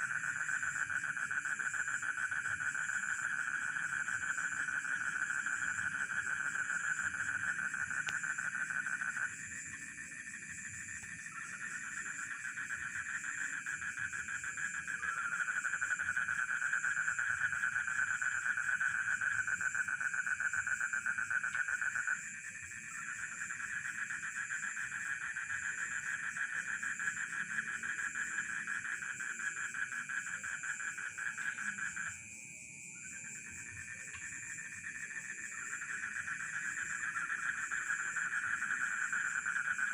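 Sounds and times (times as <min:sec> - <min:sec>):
frogs and crickets calling: 0:00.0 - 0:39.9.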